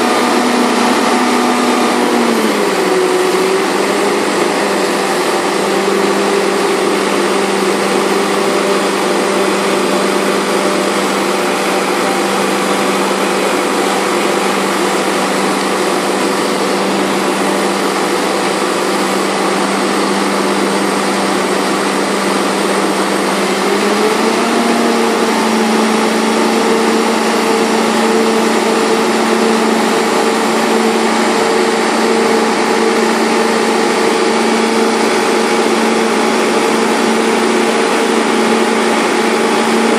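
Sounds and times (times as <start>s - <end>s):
harvester machinery noise: 0.0s - 39.9s
tractor engine running: 0.0s - 39.9s.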